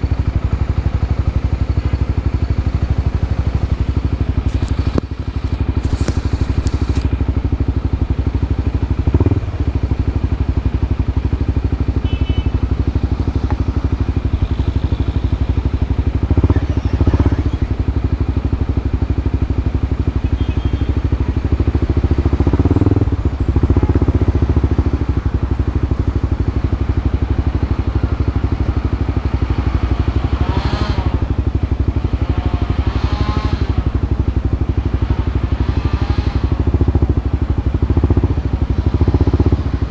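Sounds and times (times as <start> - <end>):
engine throttle blips and revving: 0.0 - 39.9
motorcycle engine idling: 0.0 - 39.9.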